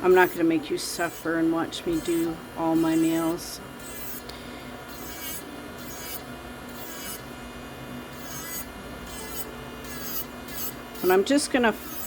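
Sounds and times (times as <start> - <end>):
scratchy grinding on nail: 0.0 - 4.2, 4.9 - 7.2, 8.1 - 12.0.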